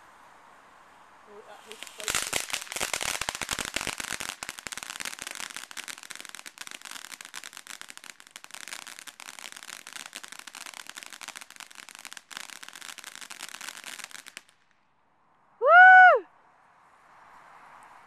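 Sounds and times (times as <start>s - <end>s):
fireworks crackling: 0.0s - 14.9s.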